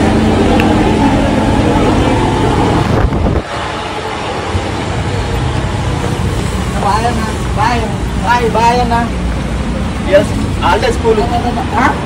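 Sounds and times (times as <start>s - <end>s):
traffic noise: 0.0s - 12.0s
vehicle engine: 0.0s - 12.0s.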